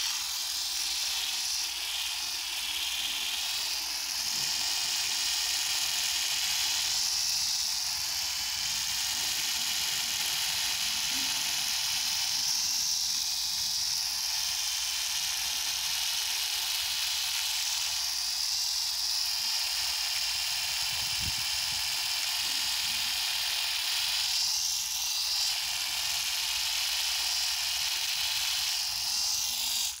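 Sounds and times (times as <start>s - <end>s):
epilator whirring: 0.0s - 30.0s.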